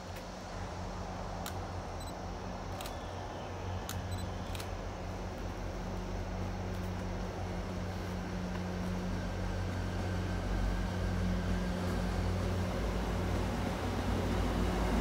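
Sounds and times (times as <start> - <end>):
train approaching hum and rumble: 0.0 - 15.0.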